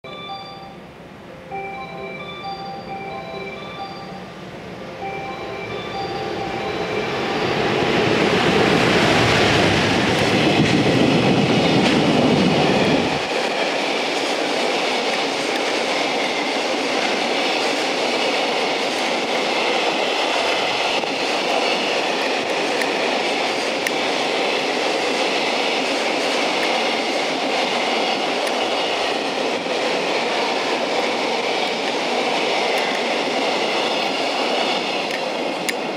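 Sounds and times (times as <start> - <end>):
train wheels clattering: 5.6 - 35.9.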